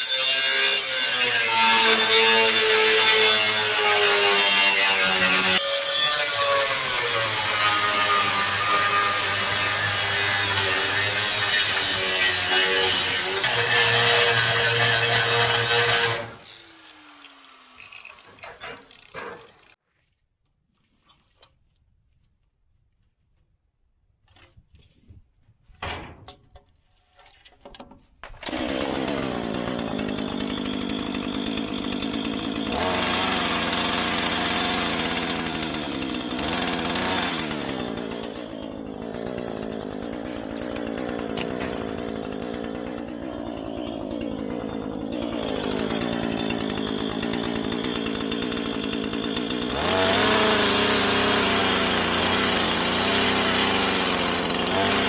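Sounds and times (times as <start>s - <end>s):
electric power tool cutting: 0.0s - 19.8s, 28.4s - 55.0s.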